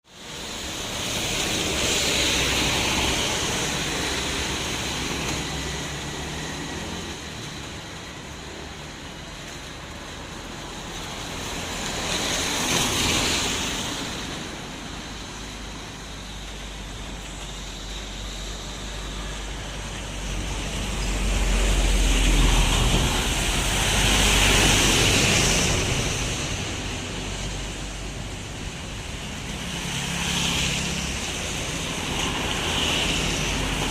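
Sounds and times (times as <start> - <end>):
tyres swishing on wet road: 0.0 - 33.9
engine rumble: 0.1 - 33.9
rain falling: 0.1 - 33.9.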